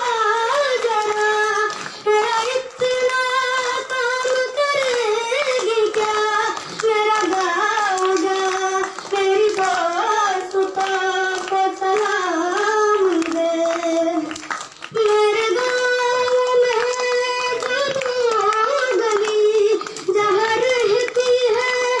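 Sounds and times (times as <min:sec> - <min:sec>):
boy singing into a microphone: 0:00.0 - 0:22.0.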